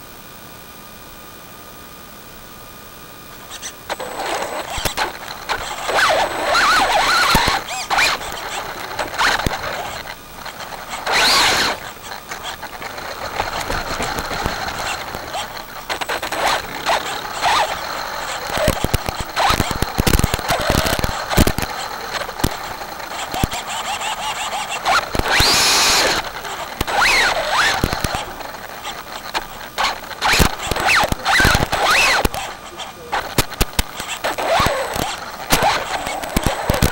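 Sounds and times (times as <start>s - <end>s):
rc truck motor whining: 3.2s - 36.9s.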